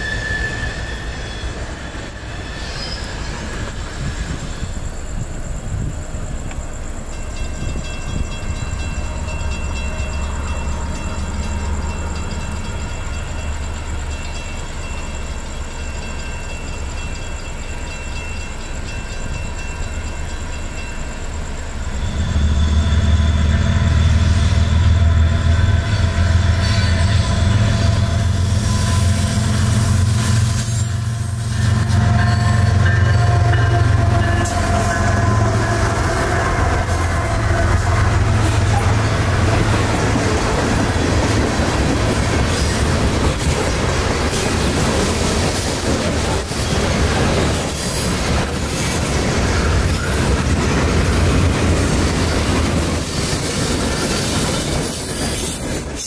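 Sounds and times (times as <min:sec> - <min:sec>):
diesel train rumbling: 0:00.0 - 0:56.0.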